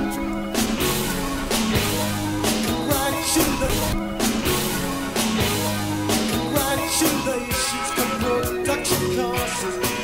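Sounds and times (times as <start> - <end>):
music from a vinyl record: 0.0 - 10.0.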